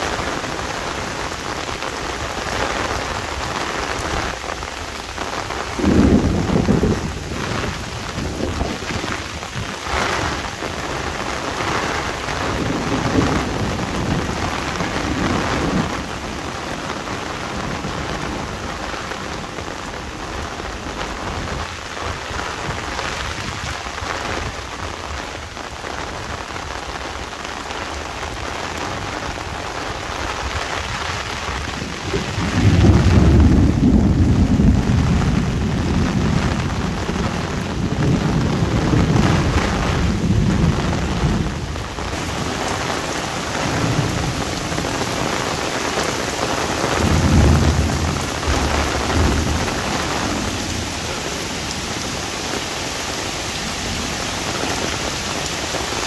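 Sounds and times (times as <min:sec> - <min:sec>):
thunder rumbling: 0:00.0 - 0:24.8, 0:29.0 - 0:56.0
heavy rain on an umbrella: 0:00.0 - 0:56.0.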